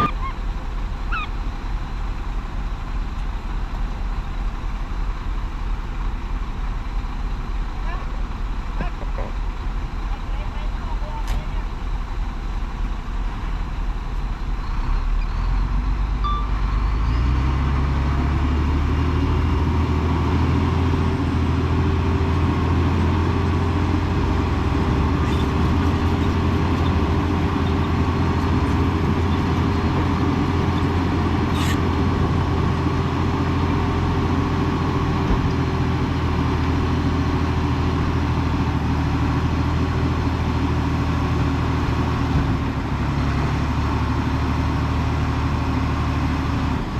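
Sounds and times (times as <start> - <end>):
heavy diesel engine revving: 0.0 - 3.0, 11.2 - 46.9.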